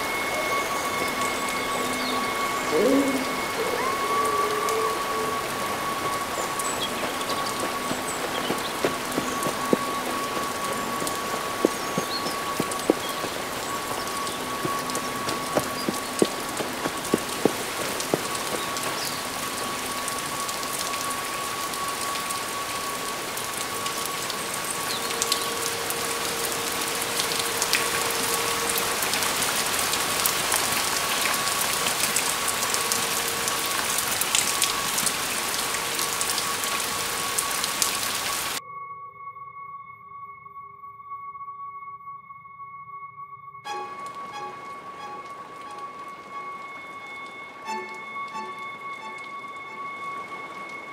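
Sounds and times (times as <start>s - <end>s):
high held drone music: 0.0s - 38.5s, 43.7s - 50.9s
heavy raindrops striking: 0.0s - 38.6s, 43.7s - 50.9s
rain falling: 0.0s - 38.6s, 43.7s - 50.9s.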